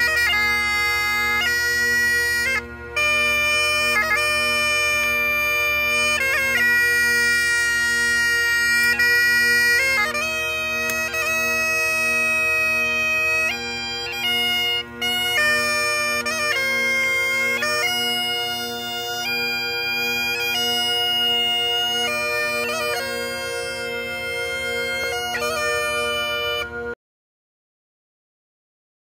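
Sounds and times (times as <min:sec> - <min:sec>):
bagpipes playing slow tune: 0:00.0 - 0:27.0.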